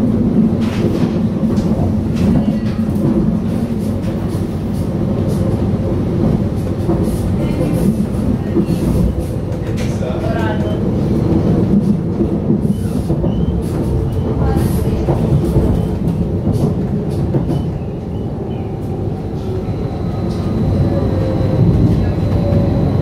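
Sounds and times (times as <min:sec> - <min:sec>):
train wheels rolling: 0:00.3 - 0:23.0.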